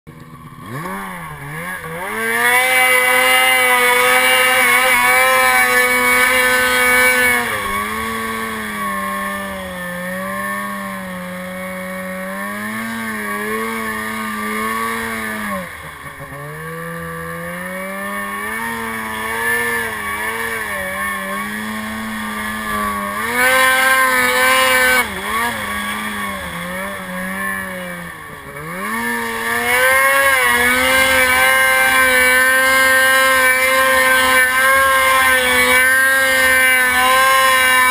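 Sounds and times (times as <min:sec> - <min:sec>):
snowmobile engine revving: 0:00.1 - 0:37.9.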